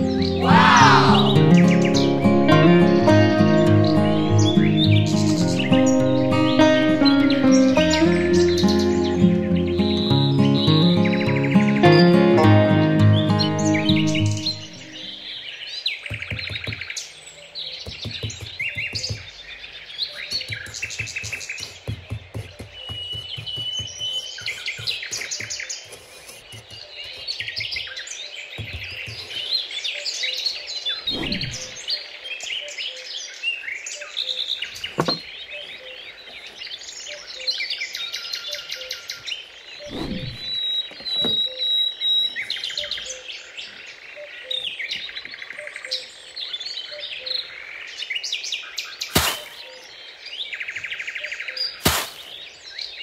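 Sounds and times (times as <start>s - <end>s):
small birds chirping and singing: 0.0s - 53.0s.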